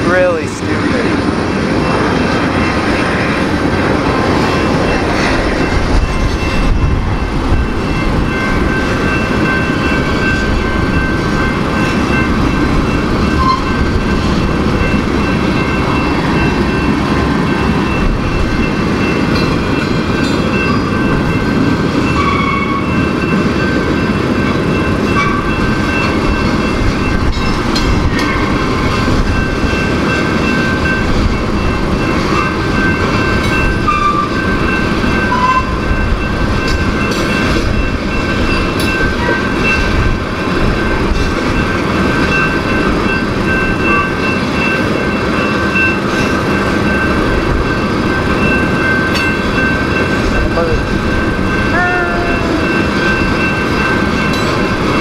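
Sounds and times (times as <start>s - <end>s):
freight train wheels on rail: 0.0s - 55.0s
high steady tones: 0.0s - 55.0s.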